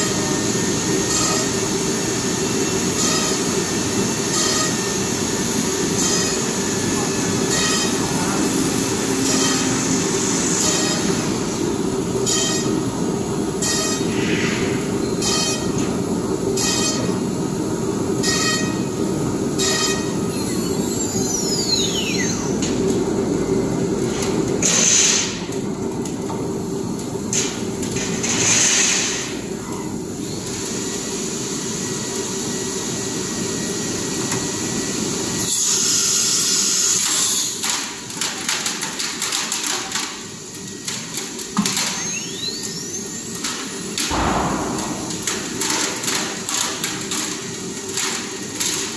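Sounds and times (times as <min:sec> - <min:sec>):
machine mechanical hum: 0:00.0 - 0:48.9.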